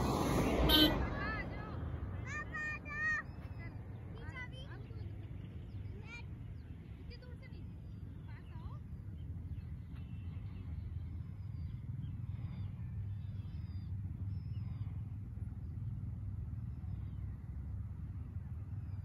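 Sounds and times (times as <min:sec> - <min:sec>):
low rumble of moving vehicle: 0:00.0 - 0:19.0.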